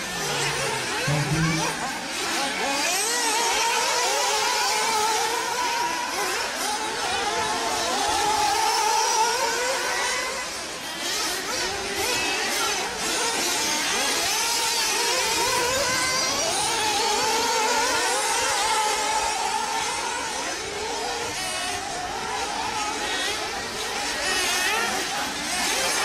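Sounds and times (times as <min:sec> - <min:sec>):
remote control car motors: 0:00.0 - 0:26.0.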